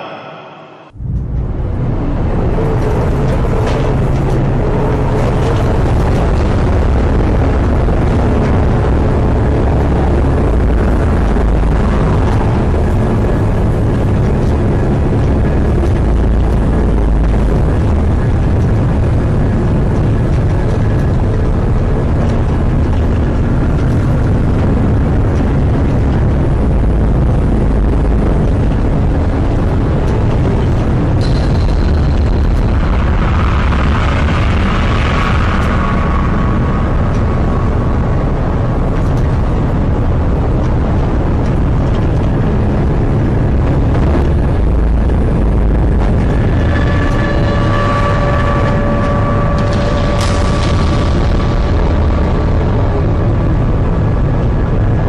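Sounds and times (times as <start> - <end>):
strong wind on microphone: 0.0 - 55.0.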